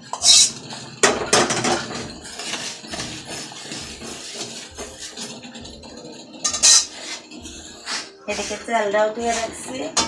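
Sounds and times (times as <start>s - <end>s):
spatula scraping pan: 0.0s - 10.0s.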